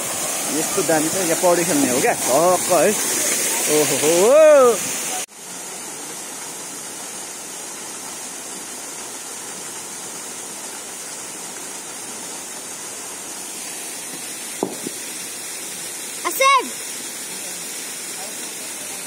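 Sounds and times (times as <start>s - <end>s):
waterfall splashing into pool: 0.0s - 19.0s.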